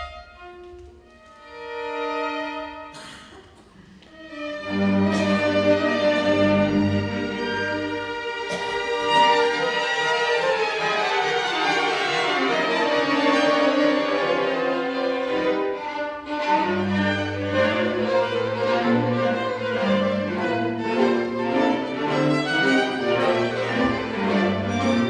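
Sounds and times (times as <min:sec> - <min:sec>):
violins playing sustained notes: 0:00.0 - 0:03.0, 0:03.8 - 0:25.0.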